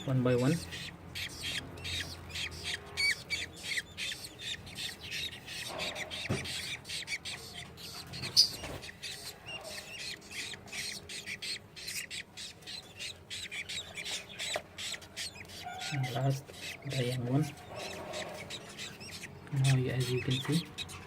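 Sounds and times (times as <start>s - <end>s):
budgies squawking and chattering: 0.0s - 21.0s.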